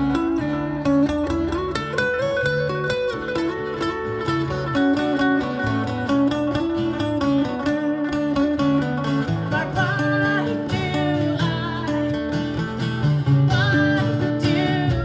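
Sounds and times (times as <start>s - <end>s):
plucked baritone guitar with effects: 0.0s - 15.0s.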